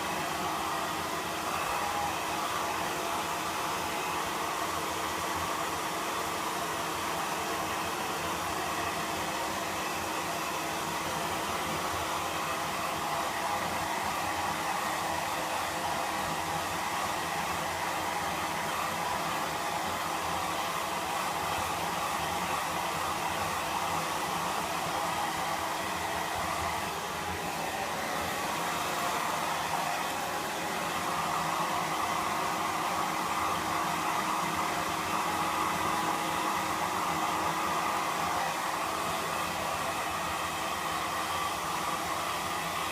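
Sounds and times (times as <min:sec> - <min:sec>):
hair dryer blowing: 0:00.0 - 0:42.9.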